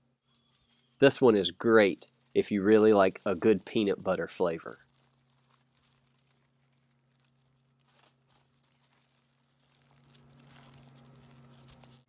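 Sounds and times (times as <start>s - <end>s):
faint low hum: 0.0s - 12.0s
faint rustle: 0.3s - 12.0s.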